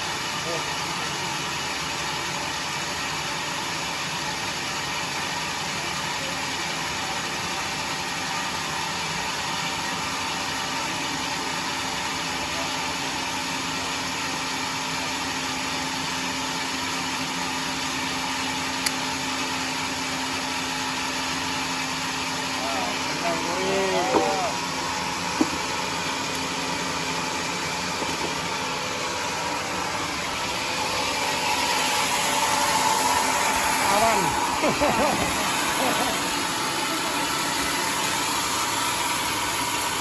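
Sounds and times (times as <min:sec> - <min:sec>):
sawmill running: 0:00.0 - 0:40.0.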